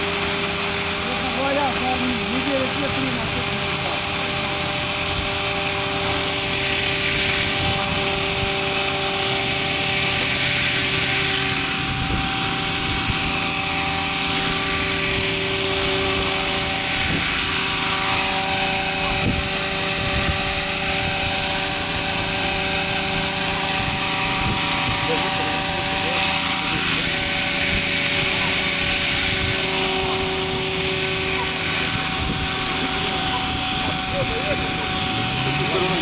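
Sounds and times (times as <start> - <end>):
model helicopter hovering: 0.0 - 36.0.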